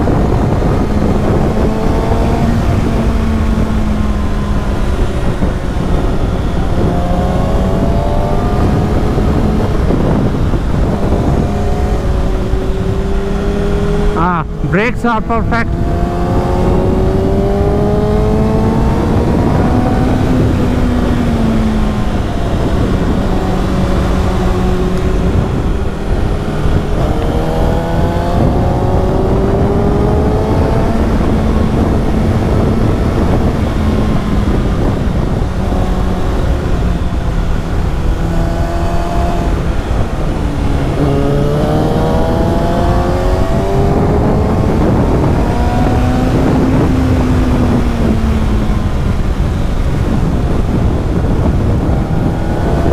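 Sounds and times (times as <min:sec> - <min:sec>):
motorcycle engine accelerating: 0:00.0 - 0:52.9
wind and road noise: 0:00.0 - 0:52.9.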